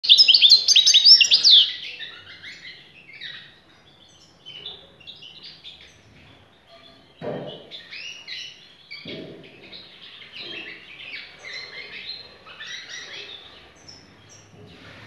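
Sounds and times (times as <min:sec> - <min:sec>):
finch singing: 0:00.0 - 0:14.6.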